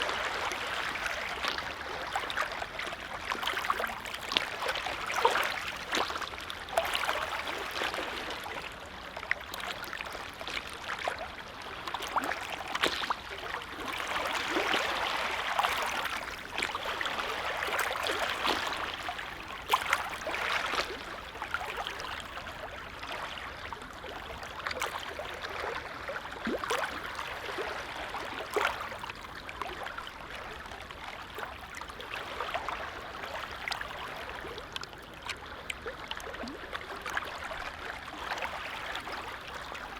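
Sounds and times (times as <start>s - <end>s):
lake waves lapping: 0.0s - 39.9s.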